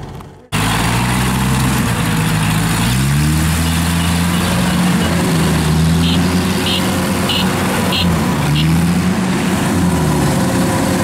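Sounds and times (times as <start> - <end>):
small tracked vehicle engine running: 0.0 - 11.0.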